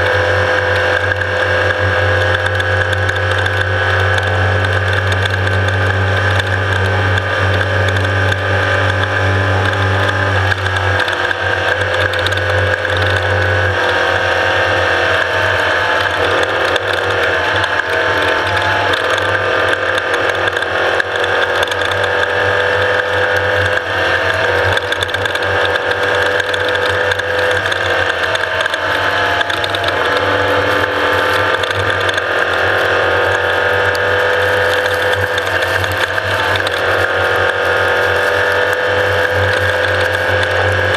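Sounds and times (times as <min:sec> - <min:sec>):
vehicle engine and gearbox whine: 0:00.0 - 0:40.9
dense mechanical rattle: 0:00.6 - 0:40.9.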